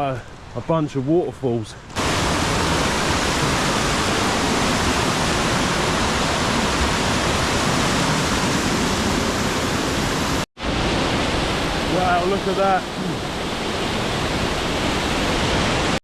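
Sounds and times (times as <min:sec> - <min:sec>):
waterfall rushing: 0:02.0 - 0:16.0.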